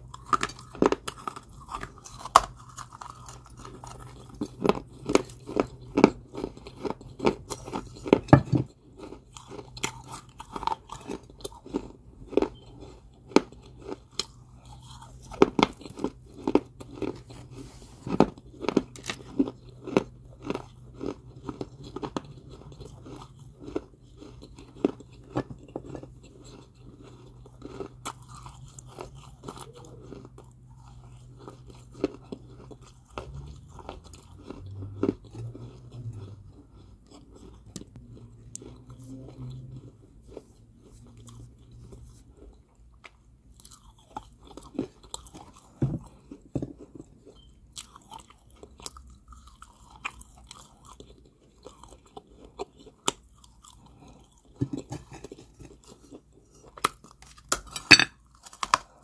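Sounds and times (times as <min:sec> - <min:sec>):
chewing crunchy clay: 0:00.0 - 0:59.0
faint low hum: 0:00.0 - 0:59.0.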